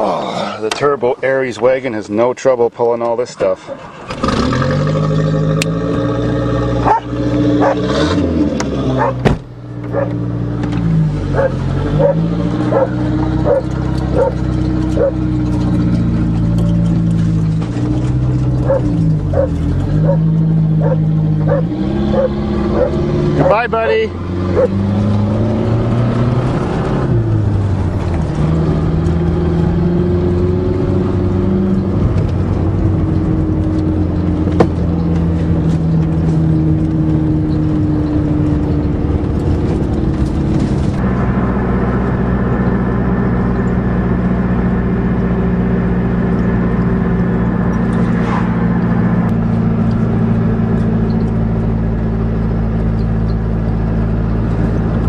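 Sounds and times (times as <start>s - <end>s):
car engine running: 3.0s - 55.0s.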